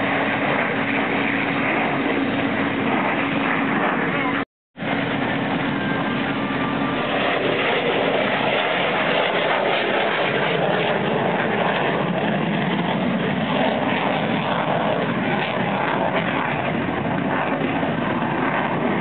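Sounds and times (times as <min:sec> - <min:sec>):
jet aircraft rushing noise: 0:00.0 - 0:19.0.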